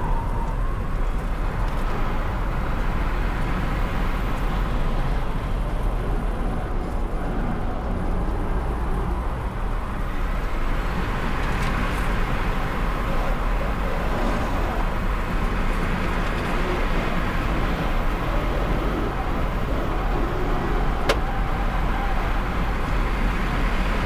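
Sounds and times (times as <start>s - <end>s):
car road and tyre noise: 0.0s - 24.0s.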